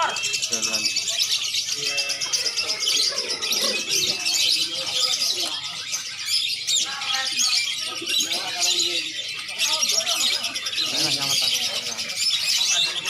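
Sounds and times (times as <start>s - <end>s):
caged birds chirping and singing: 0.0s - 13.0s.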